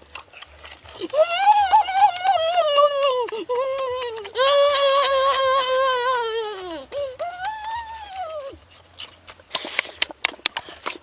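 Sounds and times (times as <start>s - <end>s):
chewing clicks: 0.0s - 11.0s
person humming mmm while eating: 0.9s - 11.0s.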